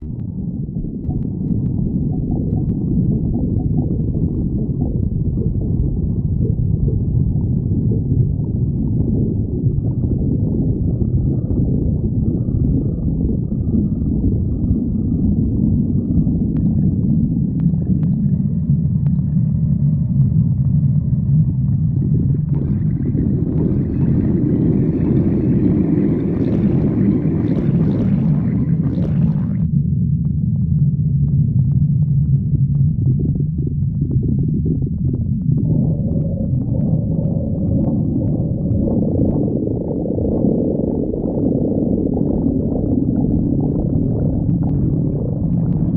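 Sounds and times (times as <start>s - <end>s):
stomach growling: 0.0s - 45.9s.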